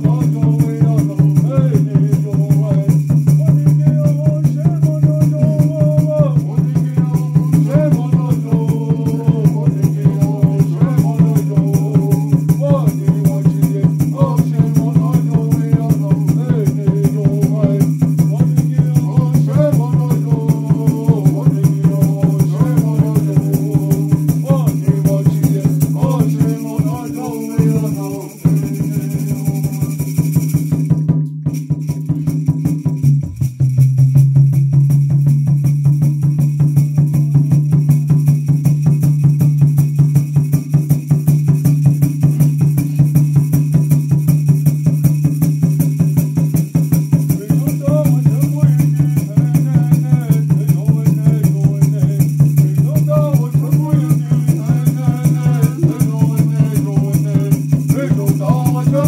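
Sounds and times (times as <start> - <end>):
rattling beat: 0.0 - 59.0.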